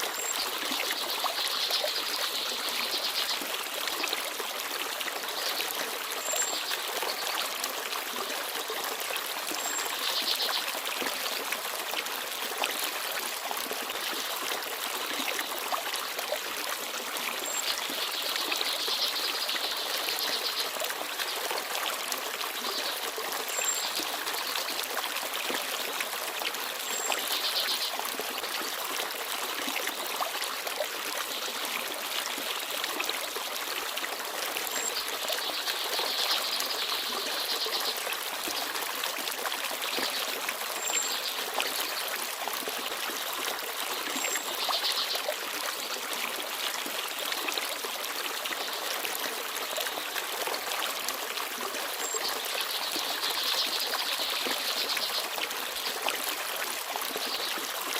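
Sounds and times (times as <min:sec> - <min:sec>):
forest stream babbling: 0:00.0 - 0:57.9.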